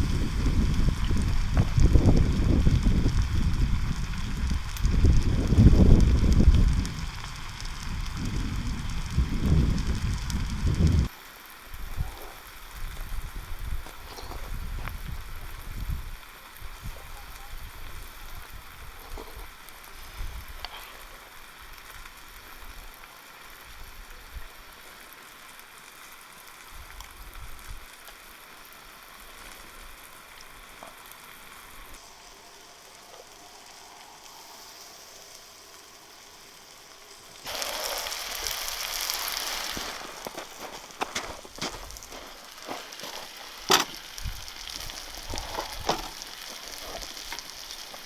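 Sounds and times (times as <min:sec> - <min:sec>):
meat sizzling in a pan: 0:00.0 - 0:48.0.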